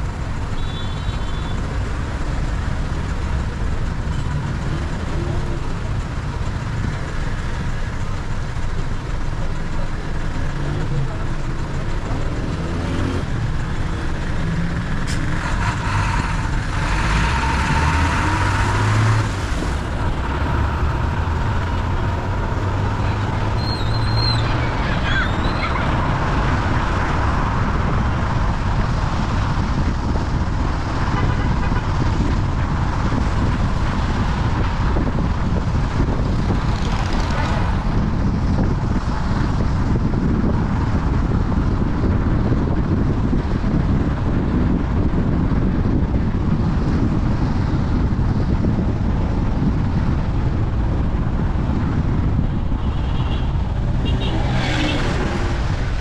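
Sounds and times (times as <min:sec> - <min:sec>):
car engine: 0:00.0 - 0:56.0
tyre road noise: 0:00.0 - 0:56.0.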